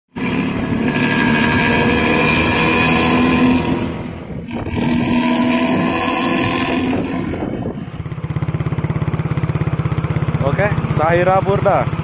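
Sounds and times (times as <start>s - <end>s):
bus engine running: 0.1s - 12.0s.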